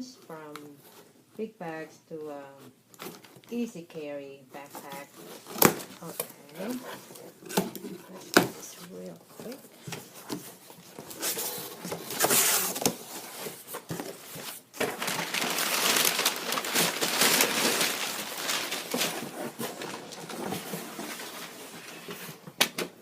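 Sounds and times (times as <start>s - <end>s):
cardboard rustling and scraping: 4.6s - 23.0s.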